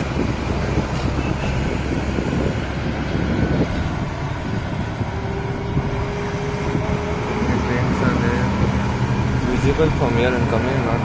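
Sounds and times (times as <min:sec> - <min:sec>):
vehicle road noise: 0:00.0 - 0:11.0
wind on microphone: 0:00.0 - 0:11.0.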